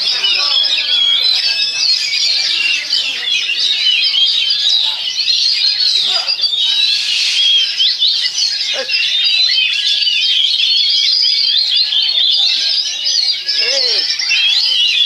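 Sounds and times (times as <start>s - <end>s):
many songbirds singing: 0.0s - 15.0s.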